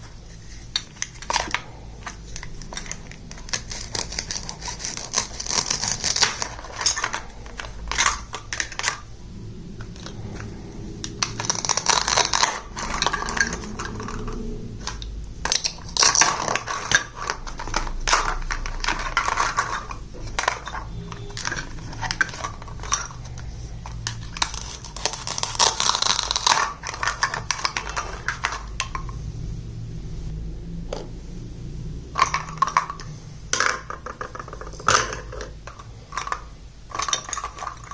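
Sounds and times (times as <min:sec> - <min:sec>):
plastic toy pieces clicking: 0:00.8 - 0:09.1, 0:10.0 - 0:29.1, 0:32.2 - 0:37.9.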